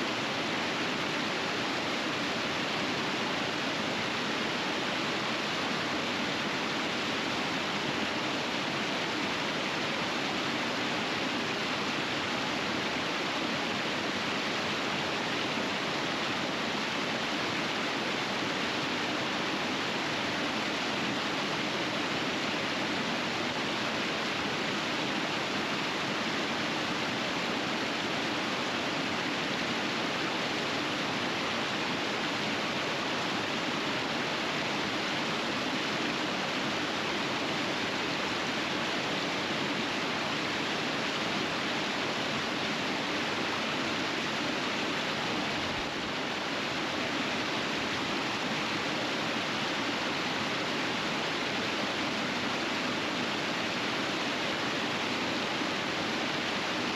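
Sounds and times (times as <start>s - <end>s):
river rapids rushing over rocks: 0.0s - 56.9s.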